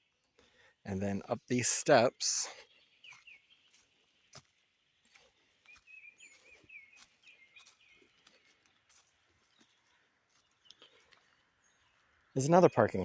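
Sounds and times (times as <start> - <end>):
faint bird chirps: 2.4 - 13.0.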